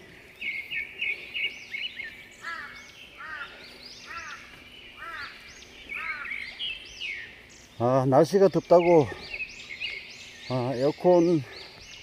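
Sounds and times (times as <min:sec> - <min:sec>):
repeated arching bird call: 0:00.0 - 0:12.0.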